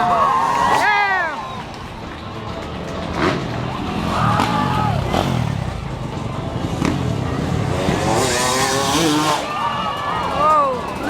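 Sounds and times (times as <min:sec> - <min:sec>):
motorcycle engines revving: 0:00.0 - 0:11.0
voices: 0:00.0 - 0:11.0.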